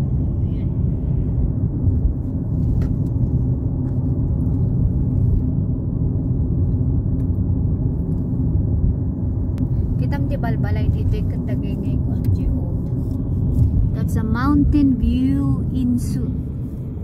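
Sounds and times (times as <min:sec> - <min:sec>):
car tyre and engine rumble: 0:00.0 - 0:17.0.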